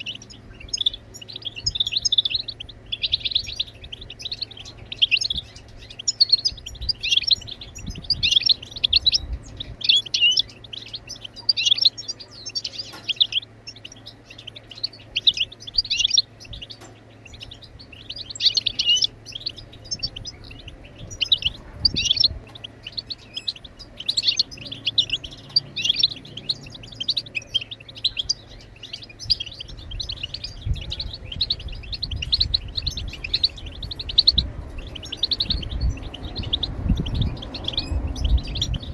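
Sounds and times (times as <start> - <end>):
goldfinch twittering: 0.0 - 38.9.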